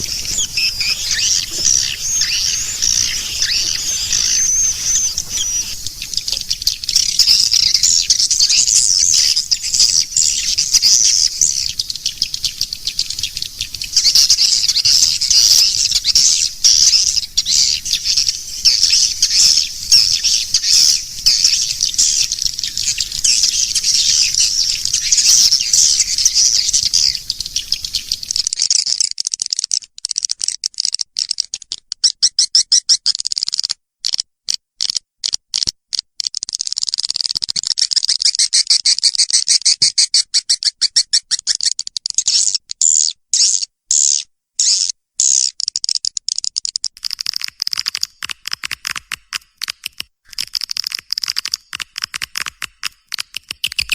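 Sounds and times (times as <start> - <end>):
high-pitched bird chirps: 0.0 - 33.7, 36.6 - 46.0, 50.3 - 53.9.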